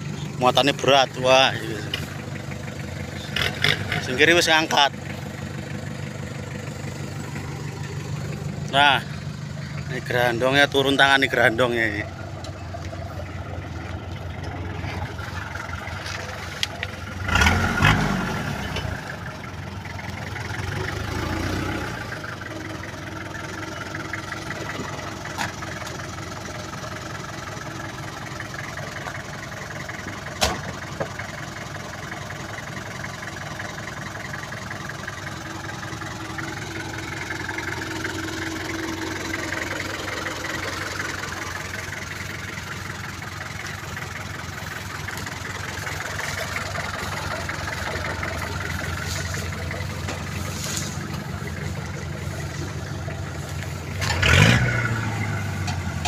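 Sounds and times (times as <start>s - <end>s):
pickup truck engine idling: 0.0s - 56.0s.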